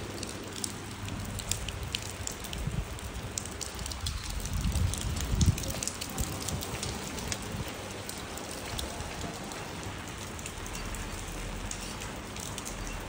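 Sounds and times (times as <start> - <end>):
rain on wet pavement: 0.0 - 13.0
raindrops ticking close by: 0.0 - 13.0.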